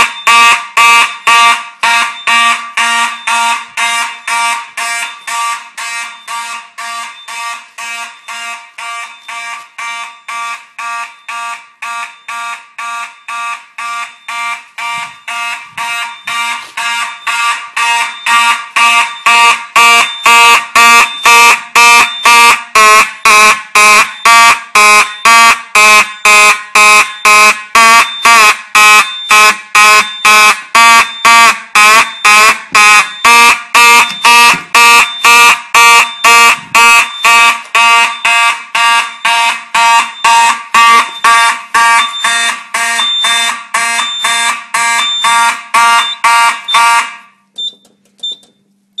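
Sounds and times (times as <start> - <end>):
fire alarm horns blaring: 0.0 - 49.0.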